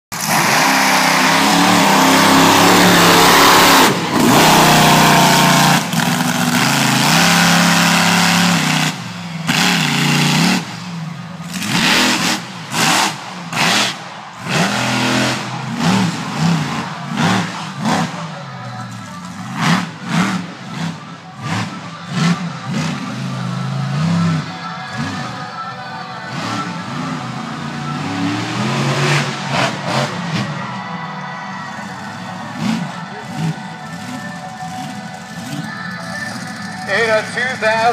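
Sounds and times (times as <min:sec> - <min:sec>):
truck engine revving: 0:00.1 - 0:37.9.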